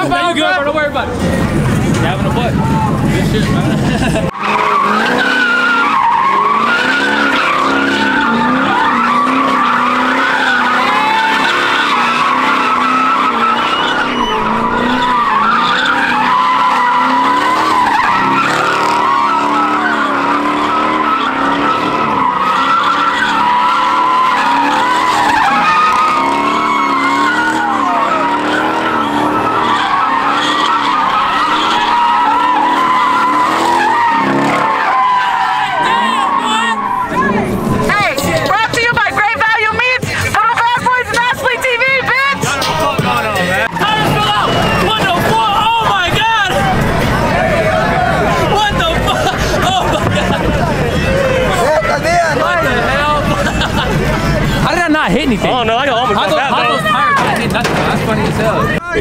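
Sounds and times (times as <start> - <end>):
car engine revving: 0.0 - 58.8
tyres squealing: 4.3 - 59.0.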